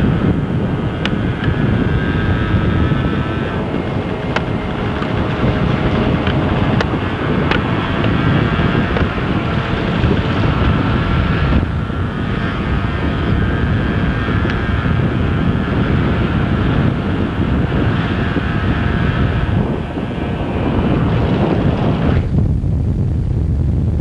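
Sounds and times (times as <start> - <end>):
vehicle engine whine: 0.0 - 24.0
wind rushing over microphone: 0.0 - 24.0.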